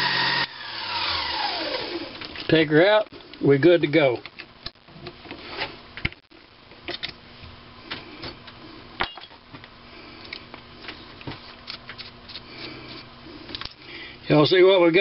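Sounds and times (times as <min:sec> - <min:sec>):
steady low hum: 0:00.1 - 0:14.9.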